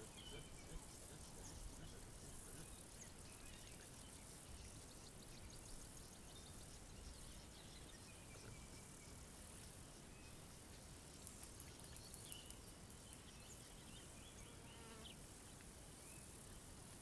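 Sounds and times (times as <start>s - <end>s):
distant bird chirps: 0.0s - 15.1s.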